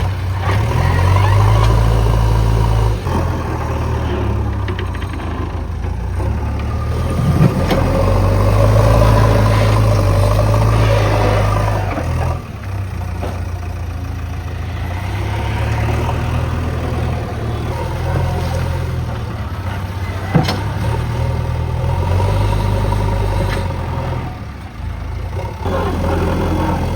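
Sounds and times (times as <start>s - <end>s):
diesel engine under load: 0.0s - 26.9s.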